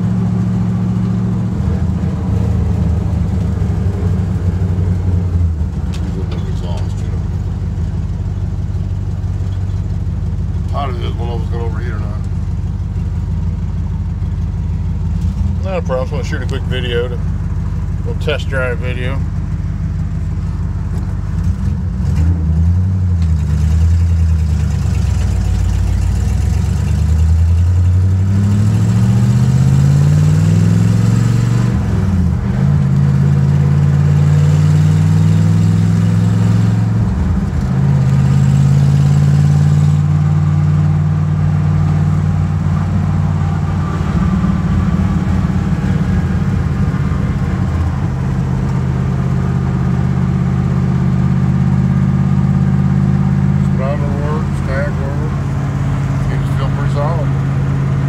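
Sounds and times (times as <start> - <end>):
car engine accelerating through gears: 0.0 - 12.4, 19.5 - 58.0.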